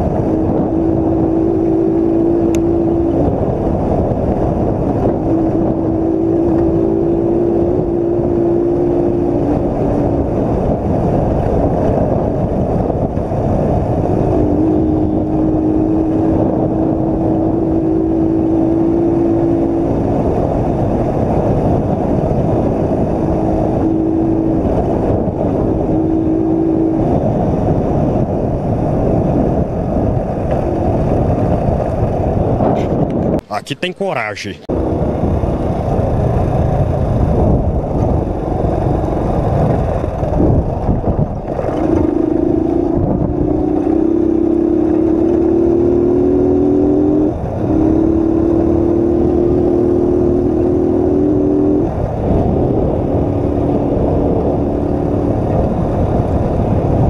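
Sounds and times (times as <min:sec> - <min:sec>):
motorcycle engine cruising: 0:00.0 - 0:33.6, 0:34.6 - 0:57.0
wind buffeting microphone: 0:00.0 - 0:33.9, 0:34.5 - 0:57.0
road noise: 0:00.0 - 0:57.0.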